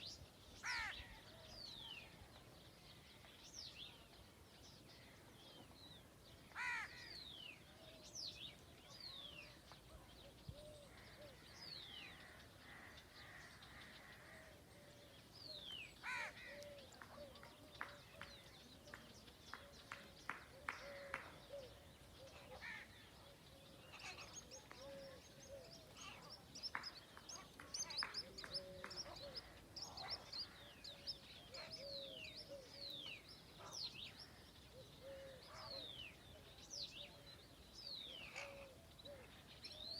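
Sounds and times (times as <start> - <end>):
wild birds whistling and chirping: 0.0 - 39.9.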